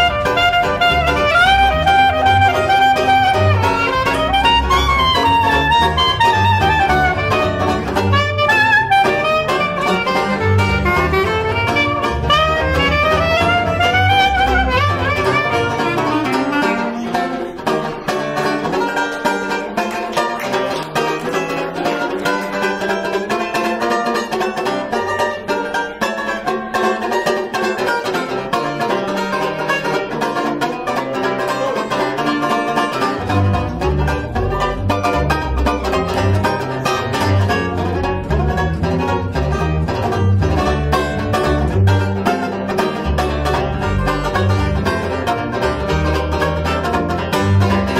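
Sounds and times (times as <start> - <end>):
banjo chords: 0.0 - 47.9
clarinet melody: 0.0 - 47.9
walking double bass: 0.0 - 47.9.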